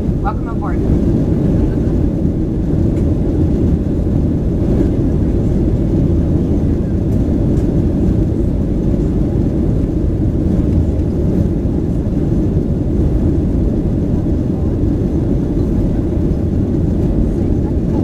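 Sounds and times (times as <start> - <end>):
airplane cabin engine roar: 0.0 - 18.0.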